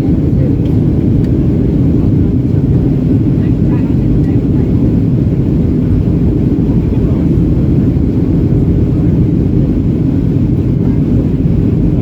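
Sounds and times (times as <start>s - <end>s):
airflow over fuselage: 0.0s - 12.0s
airplane cabin engine rumble: 0.0s - 12.0s.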